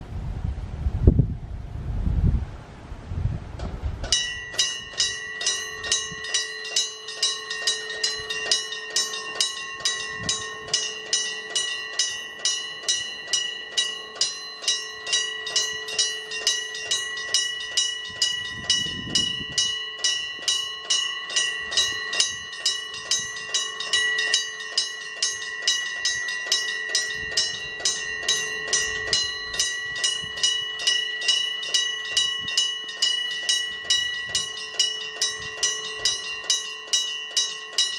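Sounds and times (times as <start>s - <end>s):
level crossing alarm bell ringing: 4.1s - 37.9s.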